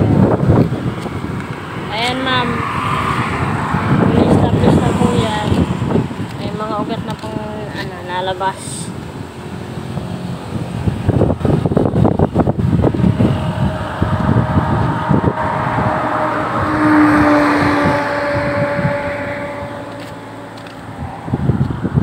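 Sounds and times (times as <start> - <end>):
low rumbling: 0.0 - 22.0
vehicle engine passing by: 0.0 - 22.0.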